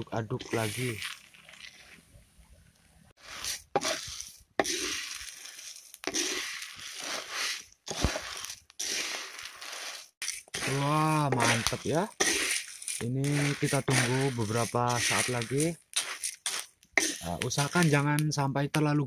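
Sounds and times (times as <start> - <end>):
beans rattling in clay pan: 0.4 - 1.8, 3.2 - 18.2.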